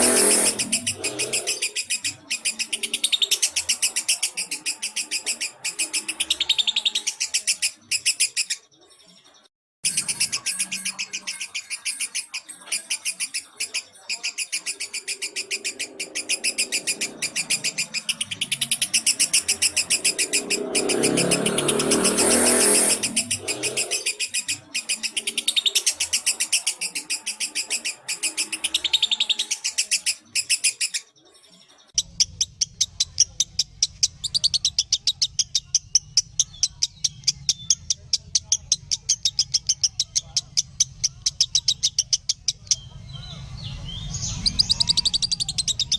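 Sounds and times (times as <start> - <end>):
lovebird chirps and trills: 0.0 - 45.9.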